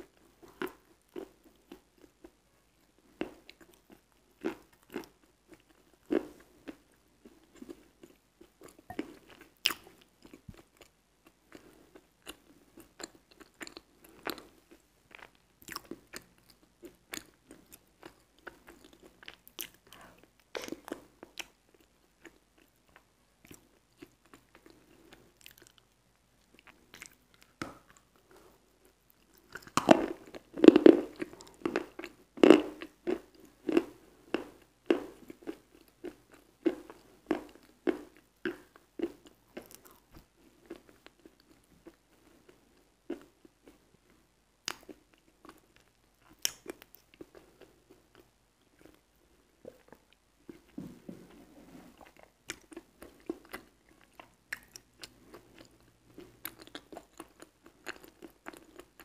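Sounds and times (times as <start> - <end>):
soft wet chewing: 0.0 - 59.0.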